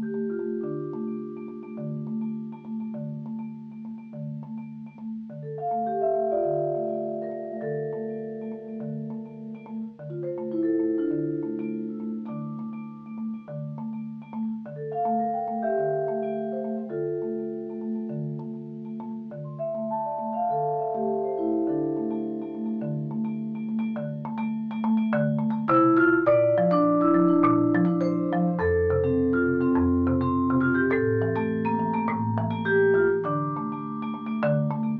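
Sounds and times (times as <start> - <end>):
vibraphone and marimba playing: 0.0 - 34.9.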